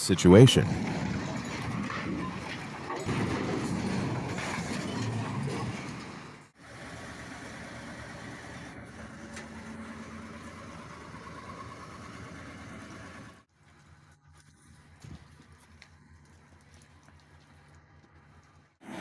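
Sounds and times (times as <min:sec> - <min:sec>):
heavy vehicle engines running: 0:00.0 - 0:19.0.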